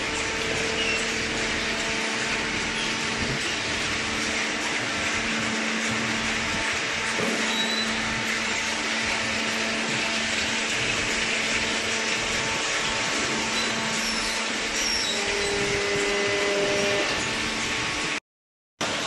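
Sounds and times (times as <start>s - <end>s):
baling machine whirring drone: 0.0s - 18.2s
higher machine hum: 0.0s - 18.2s.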